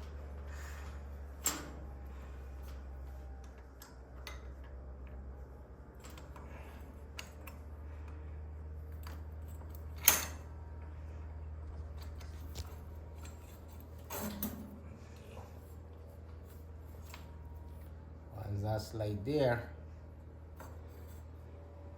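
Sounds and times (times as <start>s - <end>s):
low hum: 0.0s - 21.9s.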